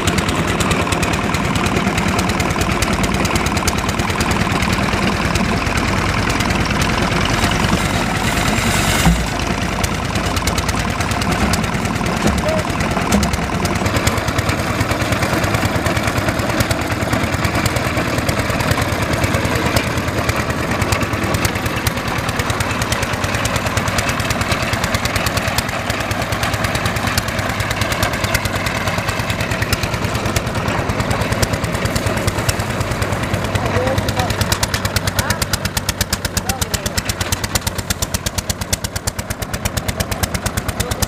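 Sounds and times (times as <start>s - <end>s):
small diesel engine running: 0.0s - 41.0s.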